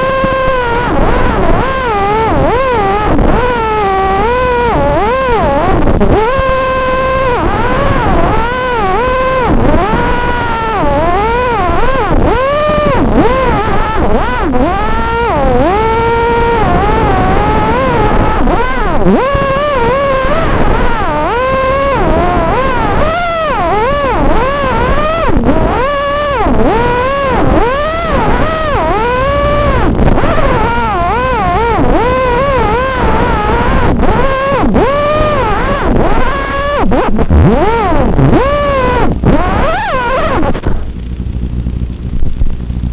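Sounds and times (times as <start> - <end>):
quadcopter motors whining: 0.0 - 41.8.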